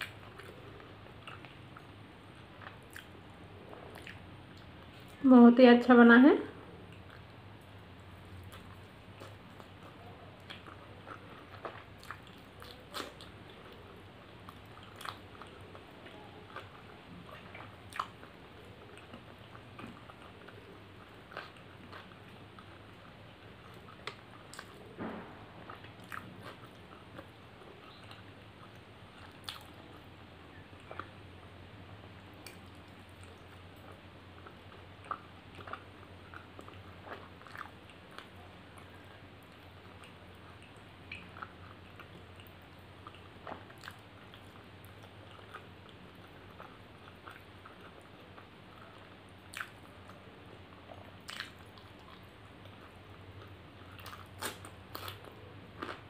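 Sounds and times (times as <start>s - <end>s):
person chewing with mouth smacks: 0.0s - 5.2s, 6.8s - 31.2s, 32.2s - 56.0s
faint low hum: 0.0s - 56.0s.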